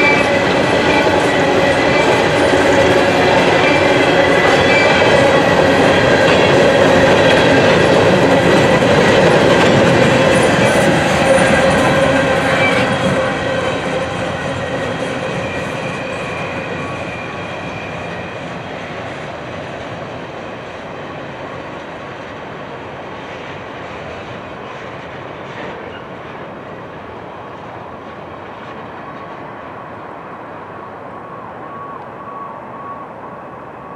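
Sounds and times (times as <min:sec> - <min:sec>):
train wheels rolling on rails: 0:00.0 - 0:33.9.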